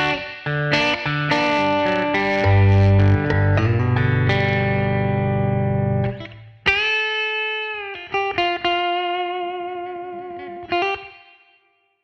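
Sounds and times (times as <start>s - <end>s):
acoustic-electric guitar: 0.0s - 11.6s.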